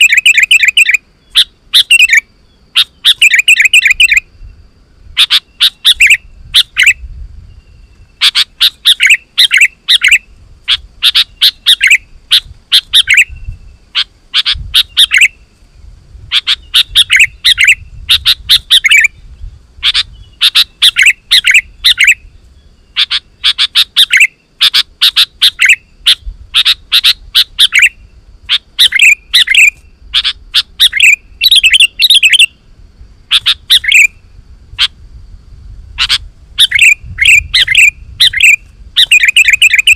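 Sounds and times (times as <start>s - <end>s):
bird singing chirpy phrases: 0.0s - 35.0s, 36.0s - 39.9s.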